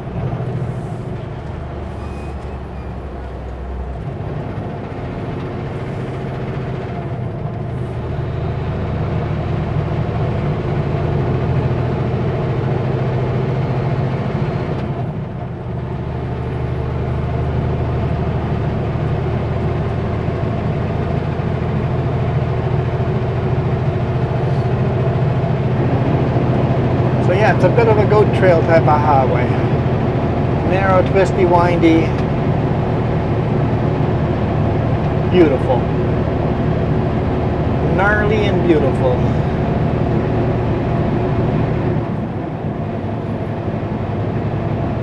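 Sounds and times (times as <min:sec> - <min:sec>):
truck diesel engine under load: 0:00.0 - 0:45.0.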